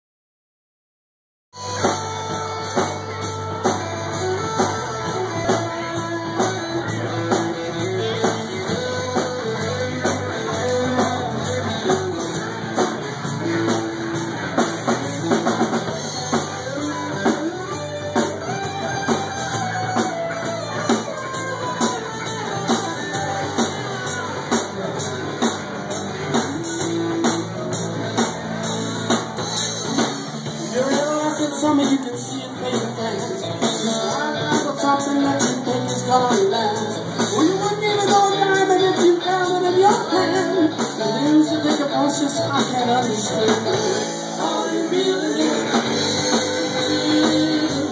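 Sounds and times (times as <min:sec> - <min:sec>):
bass guitar: 0:01.5 - 0:47.9
acoustic and electric guitars: 0:01.6 - 0:47.9
drum kit beat: 0:01.6 - 0:47.9.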